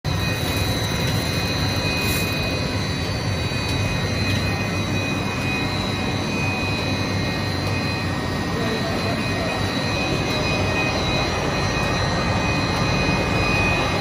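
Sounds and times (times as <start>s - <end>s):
machinery low rumble: 0.1s - 14.0s
thin high whines: 0.1s - 14.0s.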